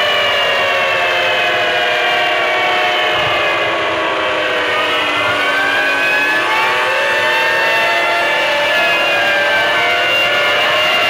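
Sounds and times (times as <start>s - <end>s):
wailing warning sirens: 0.0s - 11.0s.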